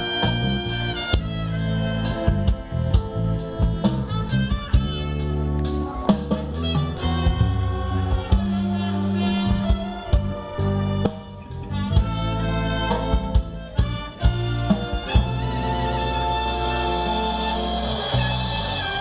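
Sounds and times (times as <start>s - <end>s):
orchestra playing: 0.0s - 19.0s.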